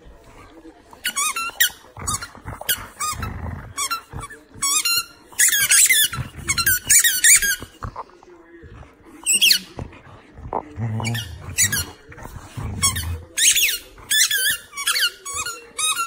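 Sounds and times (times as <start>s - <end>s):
squeaky balls chomped by dogs: 0.9s - 16.0s.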